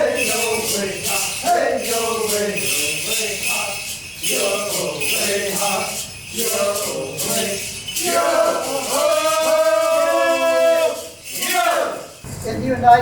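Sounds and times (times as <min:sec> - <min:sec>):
jingling bells shaken: 0:00.0 - 0:13.0.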